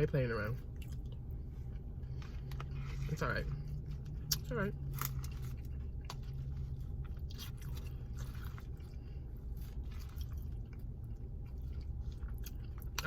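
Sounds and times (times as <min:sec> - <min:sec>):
low background hum: 0:00.0 - 0:13.0
chewing and crunching food: 0:00.1 - 0:13.0.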